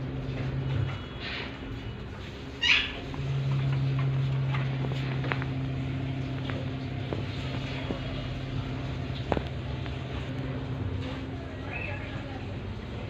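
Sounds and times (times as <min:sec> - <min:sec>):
motor humming low: 0:00.0 - 0:13.0.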